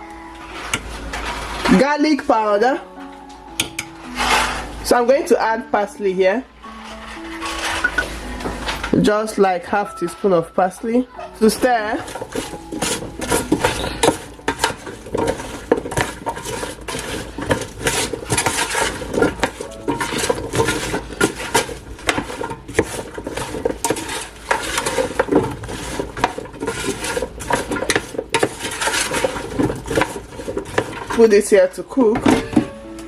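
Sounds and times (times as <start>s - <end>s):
utensil clinking and scraping pan: 0.4s - 5.2s, 6.6s - 32.8s.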